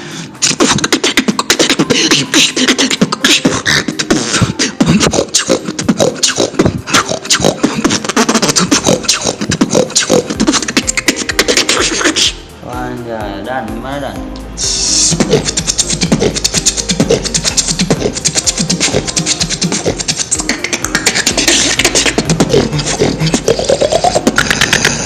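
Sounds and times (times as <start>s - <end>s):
person beatboxing: 0.0s - 12.5s, 14.6s - 25.0s.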